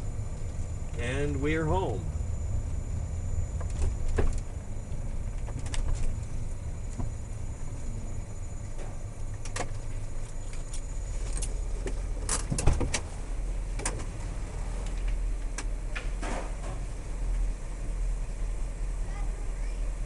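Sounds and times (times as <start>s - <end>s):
car engine humming: 0.0s - 20.0s.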